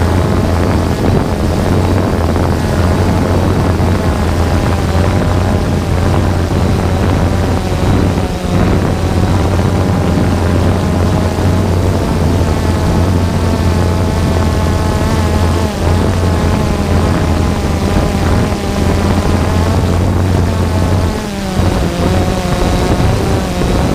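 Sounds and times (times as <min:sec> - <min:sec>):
drone propellers whirring: 0:00.0 - 0:23.9.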